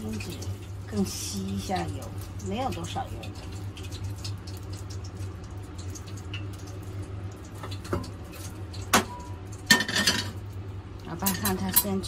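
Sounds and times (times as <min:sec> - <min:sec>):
fried tofu crackling: 0:00.0 - 0:12.0.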